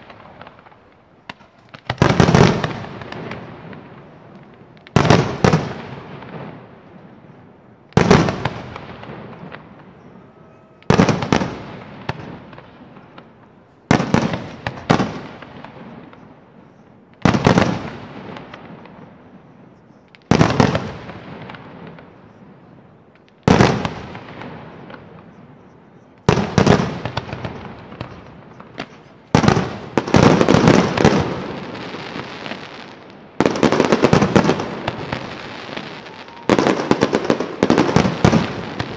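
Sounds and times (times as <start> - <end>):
firework crackle: 0.0 - 38.9.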